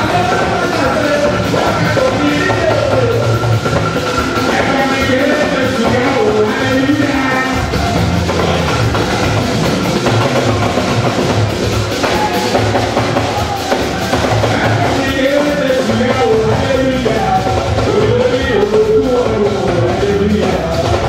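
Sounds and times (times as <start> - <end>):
church band music: 0.0 - 21.0
singing: 0.0 - 21.0
steady drum beat: 0.0 - 21.0.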